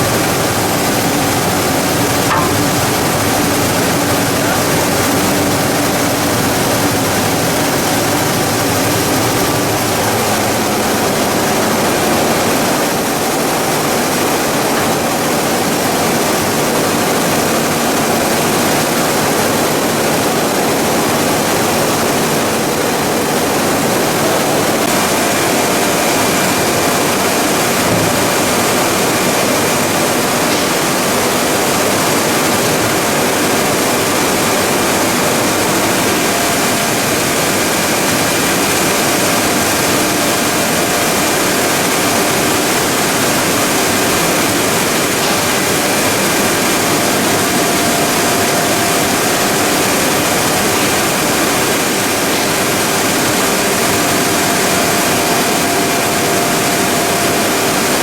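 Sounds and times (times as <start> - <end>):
industrial machinery running: 0.0 - 58.0.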